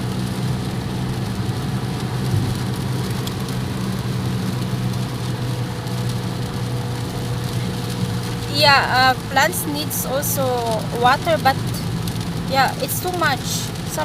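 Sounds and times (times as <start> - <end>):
car driving from inside cabin: 0.0 - 14.0
rain and wet road hiss: 0.0 - 14.0.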